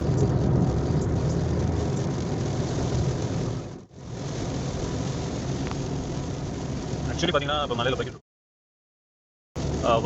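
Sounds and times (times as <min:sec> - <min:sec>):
car engine and road rumble: 0:00.0 - 0:08.2, 0:09.6 - 0:10.0.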